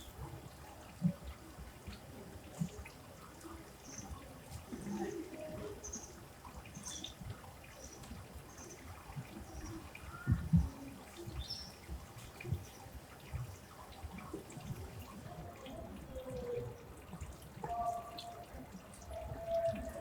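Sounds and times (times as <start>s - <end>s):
water dripping and trickling: 0.0s - 20.0s.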